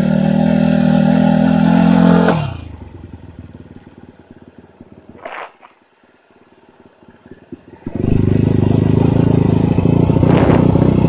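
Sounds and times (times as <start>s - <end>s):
motorcycle engine running: 0.0s - 5.8s, 6.6s - 11.0s.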